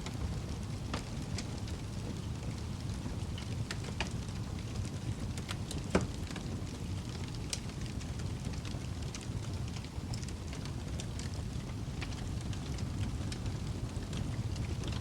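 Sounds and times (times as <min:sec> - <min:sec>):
fire crackling: 0:00.0 - 0:15.0
low rumble of flames: 0:00.0 - 0:15.0.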